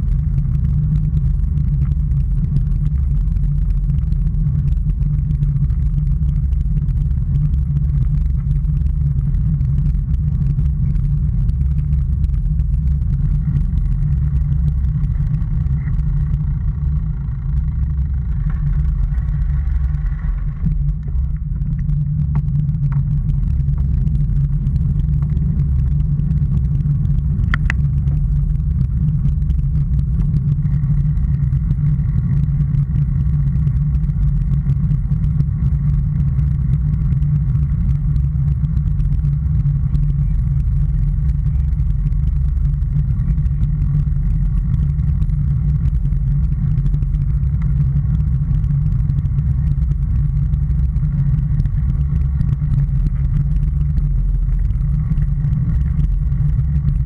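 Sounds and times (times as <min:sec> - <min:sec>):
bicycle road rumble: 0:00.0 - 0:57.0.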